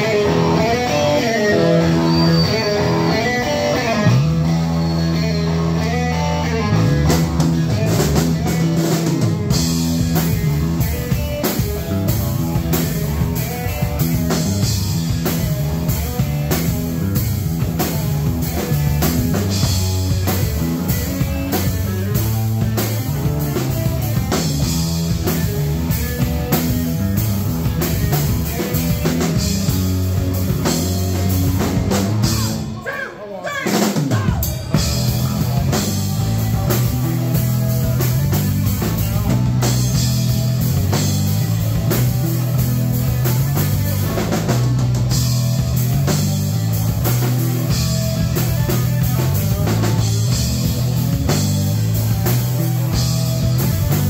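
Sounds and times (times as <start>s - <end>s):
electric guitar bending notes: 0.0s - 32.8s, 34.4s - 54.0s
bass guitar: 0.0s - 33.1s, 33.7s - 54.0s
drum kit beat: 0.0s - 54.0s.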